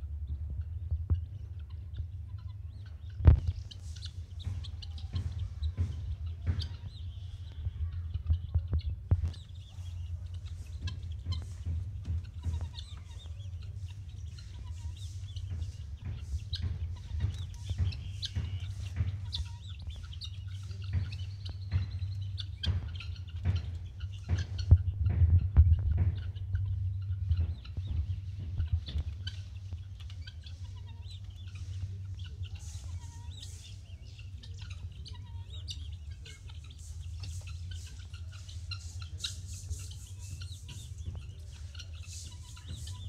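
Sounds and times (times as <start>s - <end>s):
guineafowl calling: 0.2s - 43.0s.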